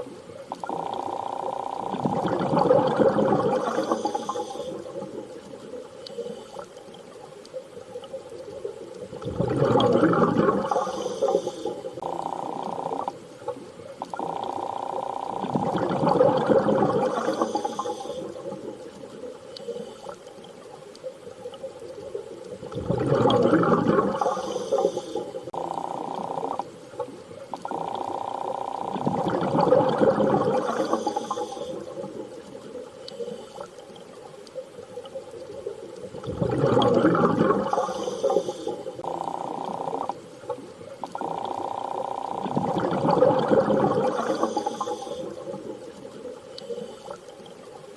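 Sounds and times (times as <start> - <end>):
rushing bubbling water: 0.0 - 47.9.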